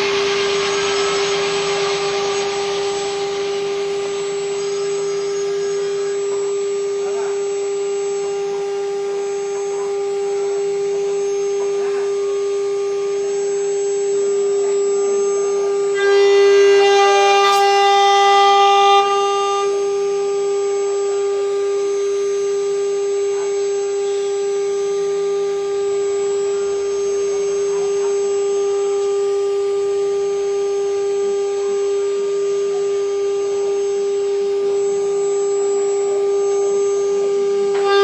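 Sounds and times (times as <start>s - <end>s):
cnc router whining: 0.0s - 38.0s.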